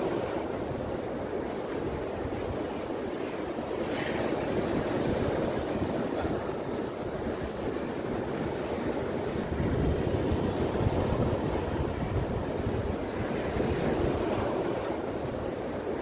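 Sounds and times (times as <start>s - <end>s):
sea surf rushing: 0.0s - 16.0s
wind buffeting microphone: 0.0s - 16.0s.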